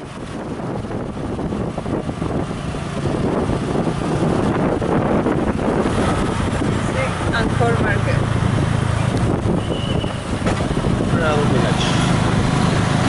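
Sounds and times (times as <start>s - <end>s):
motorbike engine running: 0.0s - 13.0s
wind and road noise: 0.0s - 13.0s.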